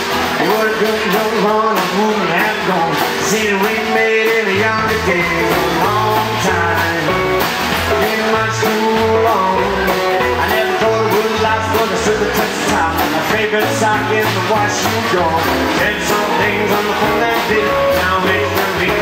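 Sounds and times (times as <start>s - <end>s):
rockabilly band playing: 0.0s - 19.0s
stepping bass line: 0.0s - 19.0s.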